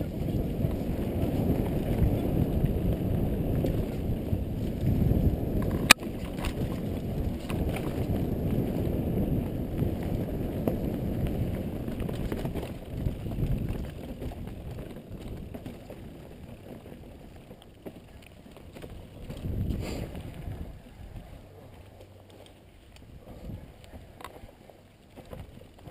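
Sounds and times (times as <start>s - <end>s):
wind rushing over microphone: 0.0s - 17.4s, 19.0s - 21.6s, 23.0s - 24.7s
bike clicks and rattles: 0.0s - 25.9s
bike tyre rumble: 0.0s - 25.9s.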